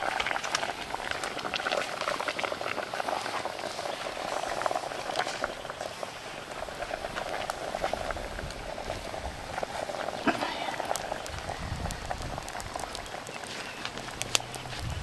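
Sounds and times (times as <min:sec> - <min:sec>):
water boiling with pops: 0:00.0 - 0:15.0.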